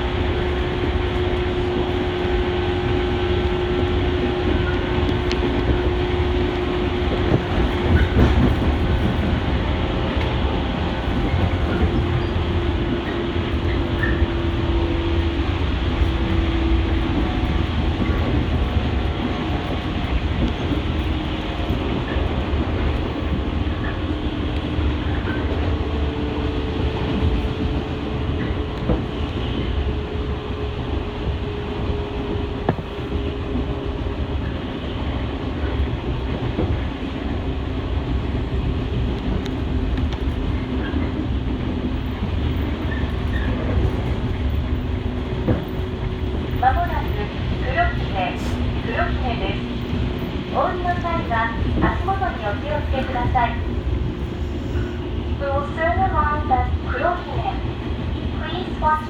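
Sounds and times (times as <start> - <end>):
rail joint clicks: 0.0 - 59.0
train motor hum: 0.0 - 59.0
train wheels rumbling on rail: 0.0 - 59.0.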